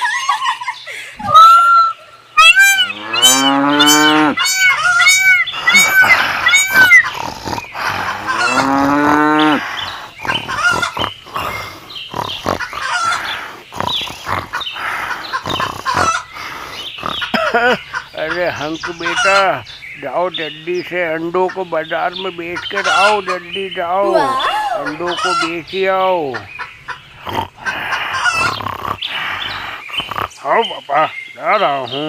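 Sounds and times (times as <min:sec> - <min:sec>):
chickens clucking: 0:00.0 - 0:31.7
geese honking: 0:01.3 - 0:19.8, 0:20.8 - 0:30.1.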